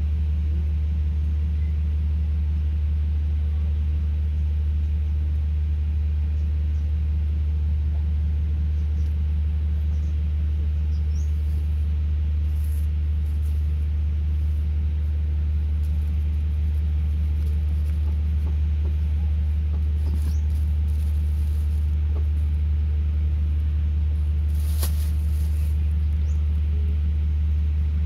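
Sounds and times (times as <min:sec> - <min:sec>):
low mechanical drone: 0:00.0 - 0:28.0.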